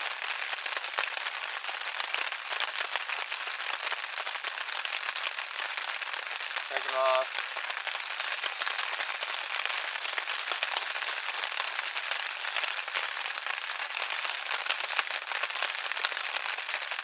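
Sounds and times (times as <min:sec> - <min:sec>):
heavy rain on a vinyl sheet: 0:00.0 - 0:17.0.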